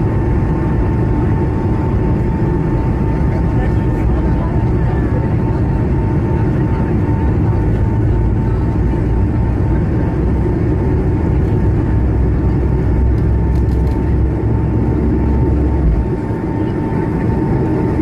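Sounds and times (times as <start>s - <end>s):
jet engine whine: 0.0s - 18.0s
jet engines roaring: 0.0s - 18.0s.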